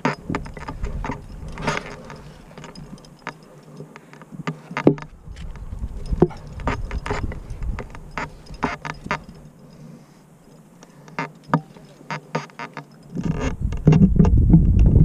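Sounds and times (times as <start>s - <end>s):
gear clicking and scraping rock: 0.0s - 15.0s.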